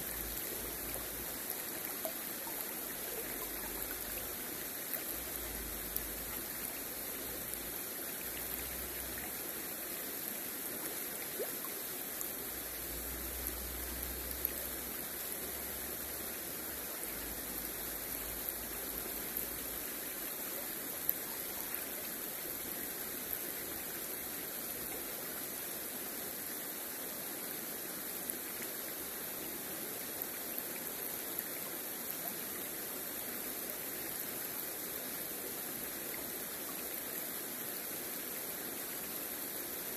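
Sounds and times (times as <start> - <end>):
river water rippling over stones: 0.0 - 39.9.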